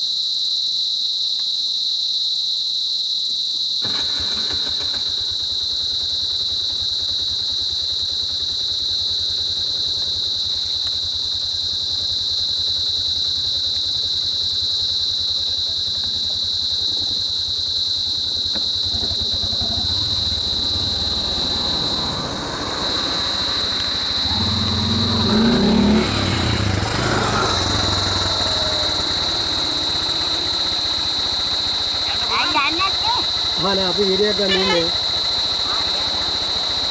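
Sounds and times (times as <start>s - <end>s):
high-pitched insect drone: 0.0s - 36.9s
vehicle engine idling: 3.8s - 36.9s.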